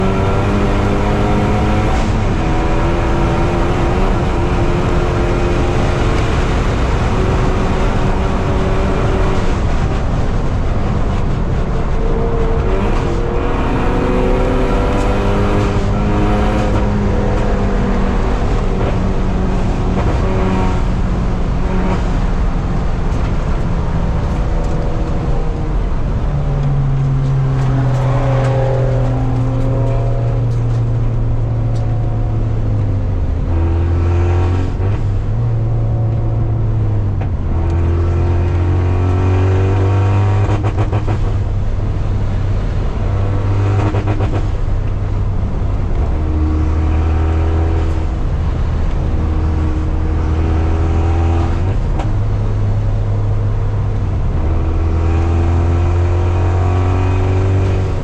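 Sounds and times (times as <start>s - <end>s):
race car engine accelerating: 0.0s - 58.0s
road and wind noise: 0.0s - 58.0s.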